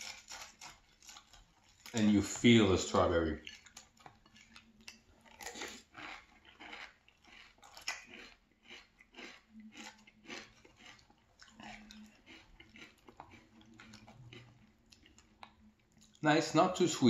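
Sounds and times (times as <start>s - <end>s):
person chewing crunchy cereal: 0.0s - 16.2s.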